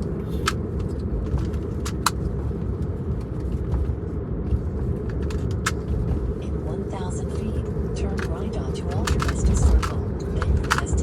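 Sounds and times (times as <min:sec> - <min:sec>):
car road rumble inside cabin: 0:00.0 - 0:11.0.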